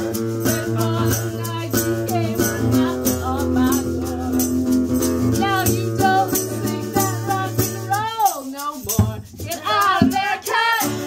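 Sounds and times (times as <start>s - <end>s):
rattling percussion beat: 0.0s - 11.0s.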